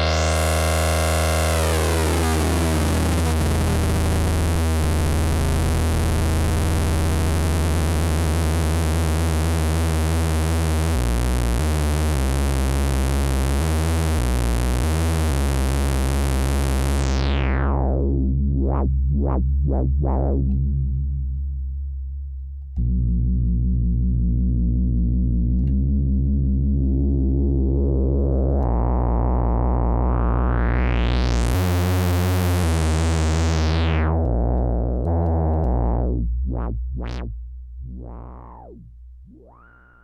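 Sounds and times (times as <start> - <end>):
buzzy synthesizer bass drone: 0.0 - 22.1, 22.7 - 40.0.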